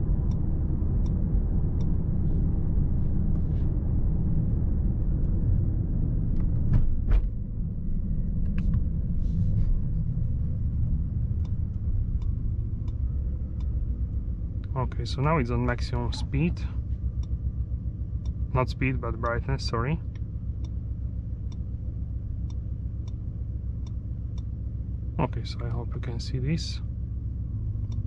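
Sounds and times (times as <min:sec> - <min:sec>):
car cabin road noise: 0:00.0 - 0:28.0.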